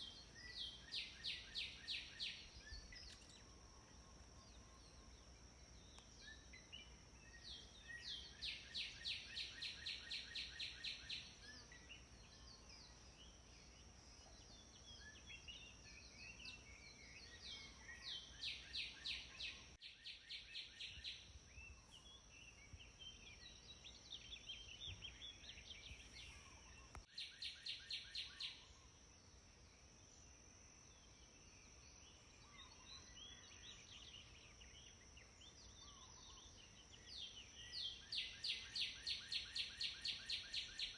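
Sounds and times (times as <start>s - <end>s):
bird chirps: 0.0s - 29.0s, 31.4s - 40.9s.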